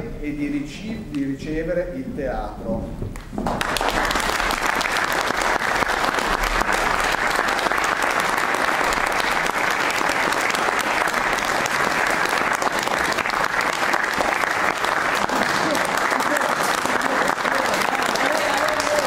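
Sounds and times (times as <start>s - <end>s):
audience applauding: 3.4s - 19.0s.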